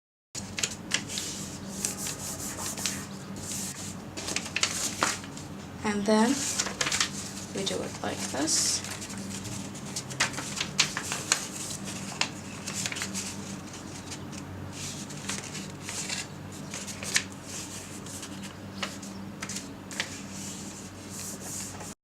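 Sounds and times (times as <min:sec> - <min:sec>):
paper folding and crackling: 0:00.4 - 0:05.5, 0:06.3 - 0:22.0.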